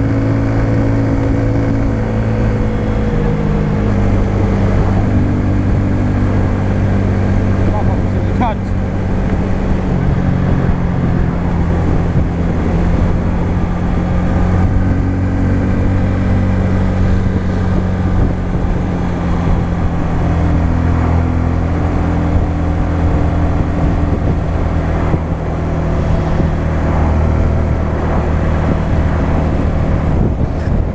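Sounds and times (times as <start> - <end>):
motorcycle engine cruising: 0.0 - 30.9.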